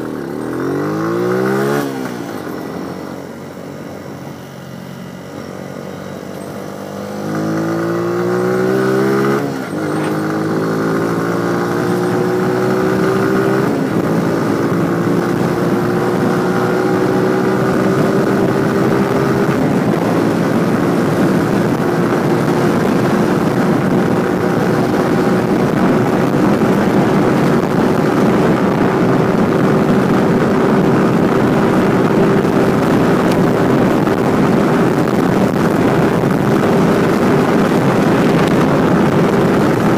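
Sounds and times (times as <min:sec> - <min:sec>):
motorcycle engine accelerating: 0:00.0 - 0:39.9
wind rush: 0:06.6 - 0:39.9.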